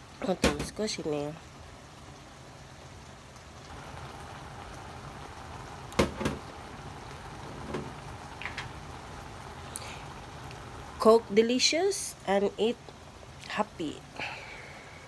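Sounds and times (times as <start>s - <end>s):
stew bubbling in a wok: 0.0s - 15.0s.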